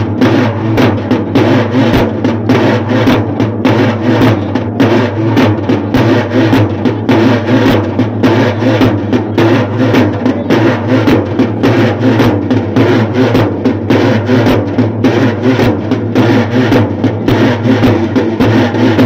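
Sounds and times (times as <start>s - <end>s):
fast rhythmic drumming: 0.0s - 19.0s.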